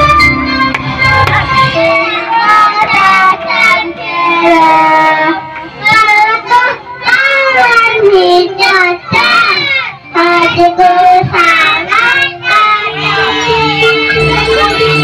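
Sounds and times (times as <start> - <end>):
girl singing into a microphone: 0.1 - 15.0.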